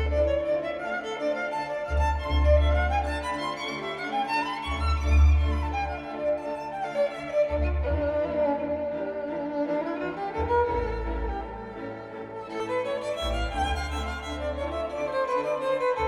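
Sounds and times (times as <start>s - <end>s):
string-like melody: 0.0s - 16.0s.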